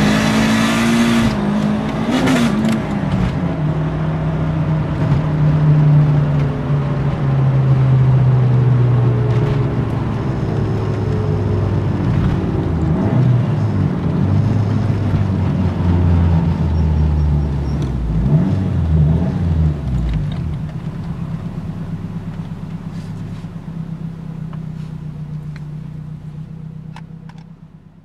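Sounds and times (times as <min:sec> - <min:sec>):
car engine and exhaust: 0:00.0 - 0:28.0
wind and road noise: 0:00.0 - 0:28.0.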